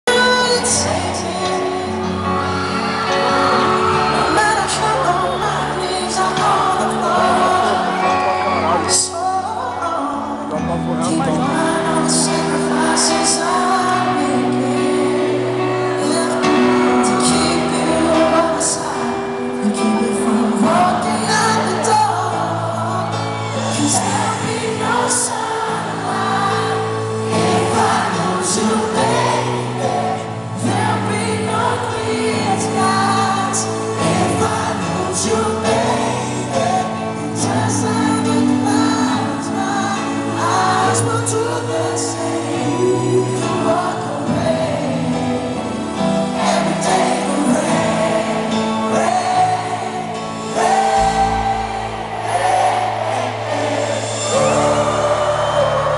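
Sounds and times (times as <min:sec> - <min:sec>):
keyboard chords: 0:00.0 - 0:55.9
person singing: 0:00.0 - 0:55.9.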